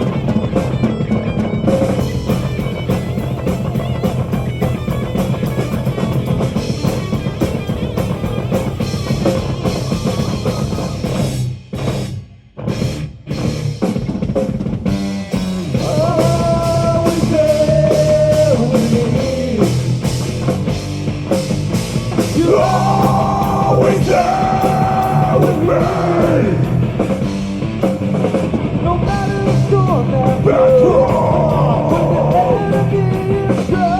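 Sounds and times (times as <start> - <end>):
heavy rock band playing: 0.0 - 33.9.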